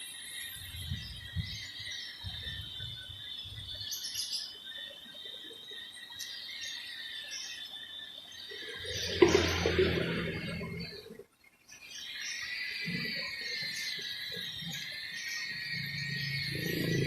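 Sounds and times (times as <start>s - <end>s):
bird chirps: 0.0s - 17.0s
insects chirring: 0.0s - 17.0s.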